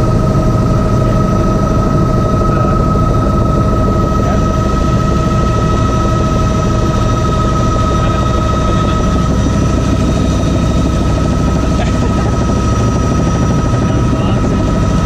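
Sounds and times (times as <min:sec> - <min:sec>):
low rumble of helicopter rotor: 0:00.0 - 0:15.0
turbine engine high whine: 0:00.0 - 0:15.0.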